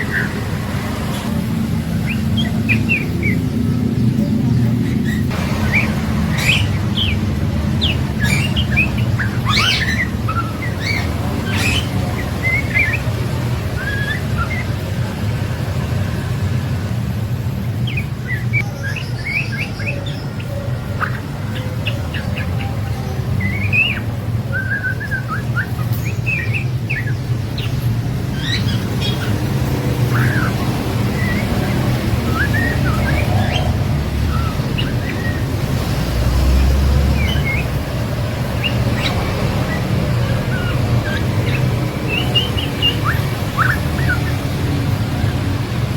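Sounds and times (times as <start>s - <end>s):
bird chirping and twittering: 0.0s - 45.9s.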